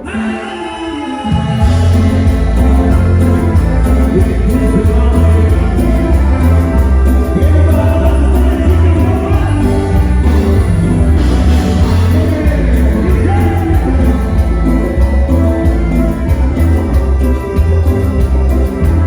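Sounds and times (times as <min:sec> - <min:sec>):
loud band music: 0:00.0 - 0:19.0
singing: 0:00.0 - 0:19.0
steady bass line: 0:01.5 - 0:19.0.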